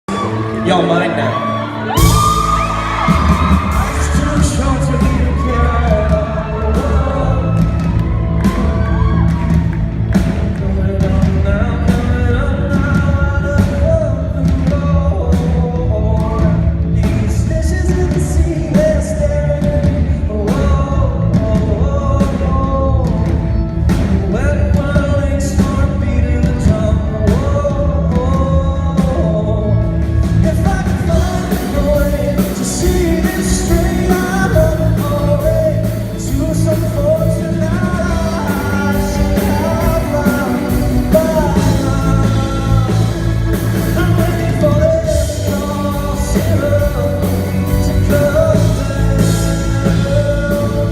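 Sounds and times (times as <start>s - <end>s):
man singing: 0.1s - 50.9s
rock band playing live: 0.1s - 50.9s
steady drumbeat: 1.9s - 50.9s.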